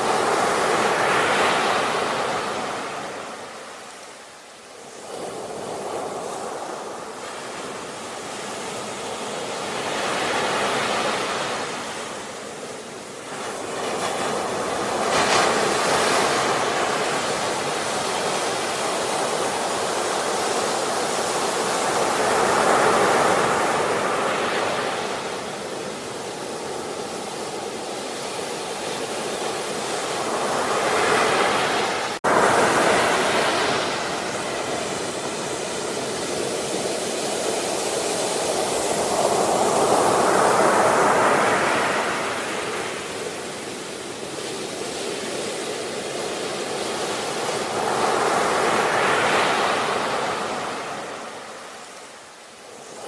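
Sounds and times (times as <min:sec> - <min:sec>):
sea waves breaking on shore: 0:00.0 - 0:53.0.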